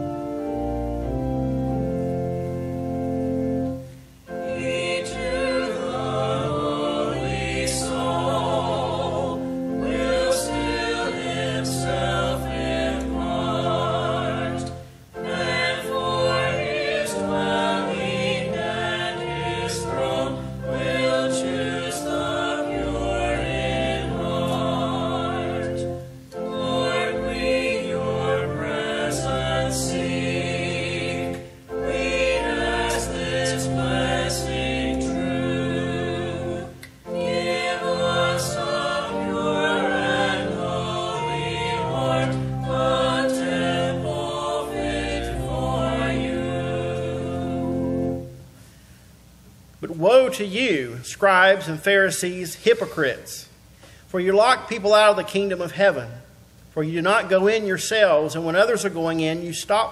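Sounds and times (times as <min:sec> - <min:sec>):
choir singing a hymn: 0:00.0 - 0:48.5, 0:49.8 - 0:53.2
organ: 0:00.0 - 0:49.1.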